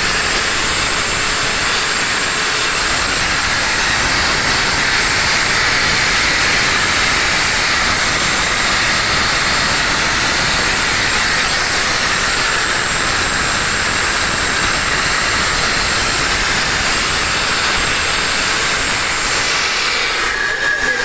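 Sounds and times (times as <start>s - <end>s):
air compressor rushing hiss: 0.0s - 21.0s.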